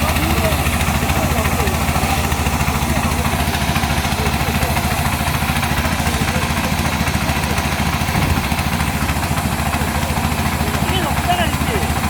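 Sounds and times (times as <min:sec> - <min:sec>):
sprayer engine droning: 0:00.0 - 0:12.0.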